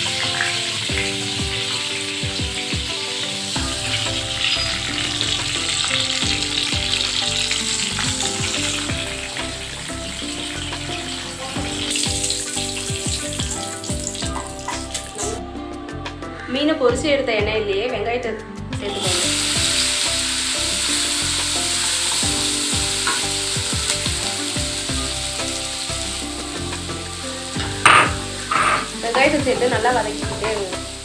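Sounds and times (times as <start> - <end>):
fish sizzling in oil: 0.0 - 15.4, 18.9 - 31.0
background music: 0.0 - 31.0.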